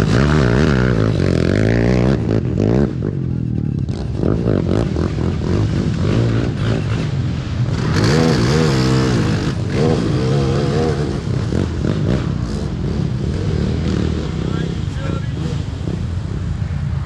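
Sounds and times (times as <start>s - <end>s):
quad engine revving: 0.0s - 16.5s.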